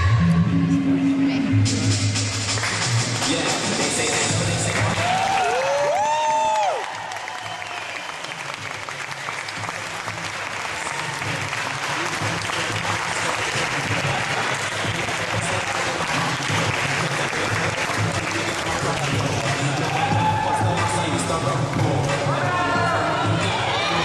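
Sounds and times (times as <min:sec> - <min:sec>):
spectators applauding: 0:02.5 - 0:22.5.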